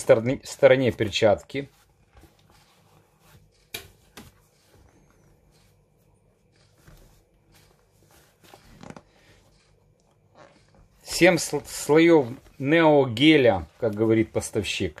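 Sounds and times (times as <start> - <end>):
boxing gloves rustling: 0.0 - 15.0.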